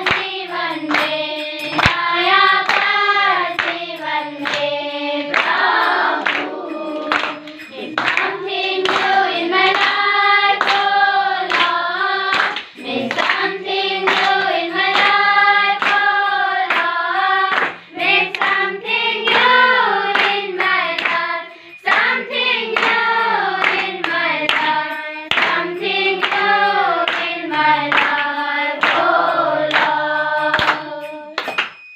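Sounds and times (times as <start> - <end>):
children singing in unison: 0.0 - 31.6
hands clapping in rhythm: 0.0 - 31.9.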